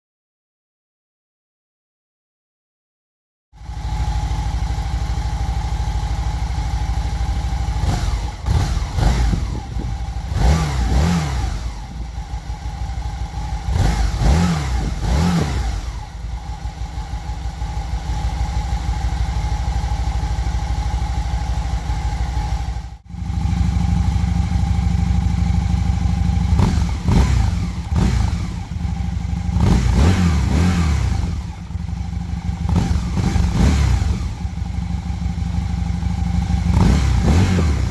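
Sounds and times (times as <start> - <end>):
motorcycle engine idling: 3.6 - 37.9.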